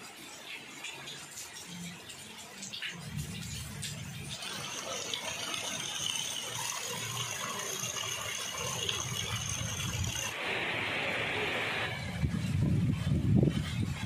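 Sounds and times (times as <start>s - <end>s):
heavy rain on leaves: 0.0s - 12.6s.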